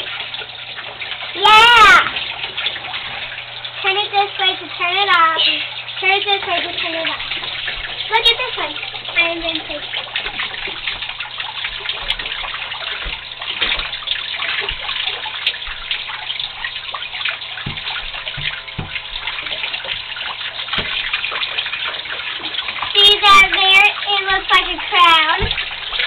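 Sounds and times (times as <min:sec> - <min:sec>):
water spraying into a bathtub: 0:00.0 - 0:26.0.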